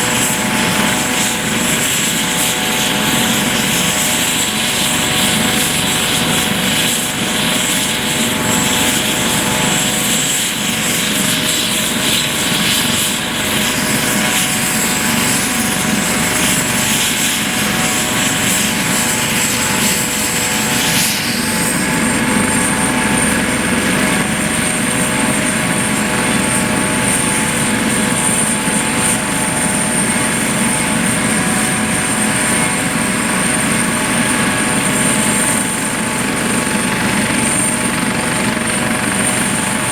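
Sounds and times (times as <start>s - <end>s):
helicopter rotor noise: 0.0s - 39.9s
turbine whine: 0.0s - 39.9s.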